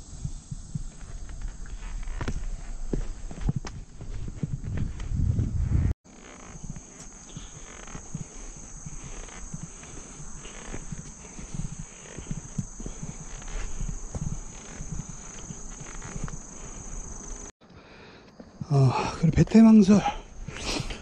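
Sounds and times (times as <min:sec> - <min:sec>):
insect chirring: 0:00.0 - 0:17.5
footsteps on trail: 0:00.0 - 0:19.2.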